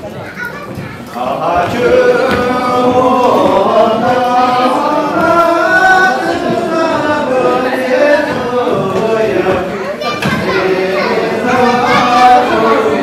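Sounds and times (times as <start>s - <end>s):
group of voices singing: 1.1s - 13.0s.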